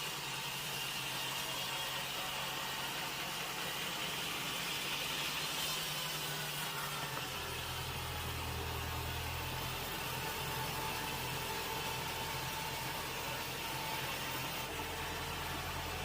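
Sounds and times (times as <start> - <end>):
sawmill machinery running: 0.0 - 16.0
deeper machine hum: 2.2 - 16.0.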